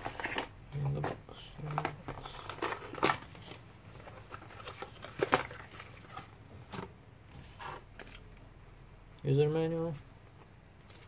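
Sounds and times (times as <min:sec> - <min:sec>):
paper and plastic rustling: 0:00.0 - 0:08.4, 0:09.8 - 0:11.0.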